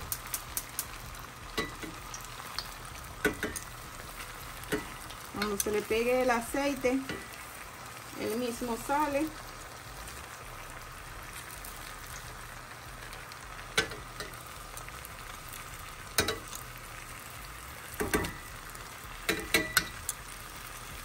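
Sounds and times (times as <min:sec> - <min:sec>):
dough sizzling in hot oil: 0:00.0 - 0:21.0.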